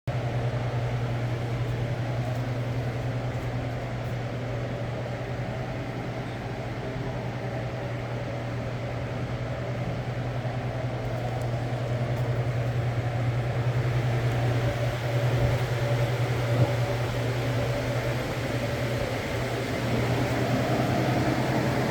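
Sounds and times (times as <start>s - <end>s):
refrigeration unit humming: 0.1s - 21.9s.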